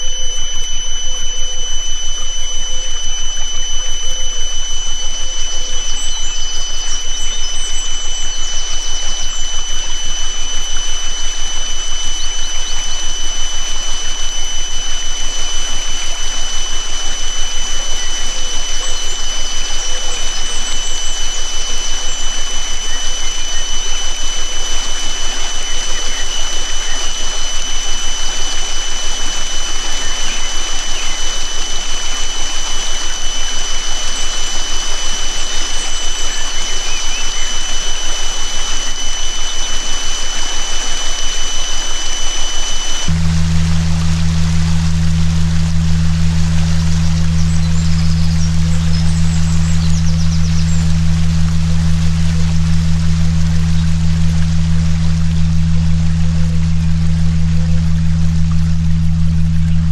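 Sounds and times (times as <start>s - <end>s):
faint bird chirps: 0.0s - 59.9s
high sine tones: 0.0s - 59.9s.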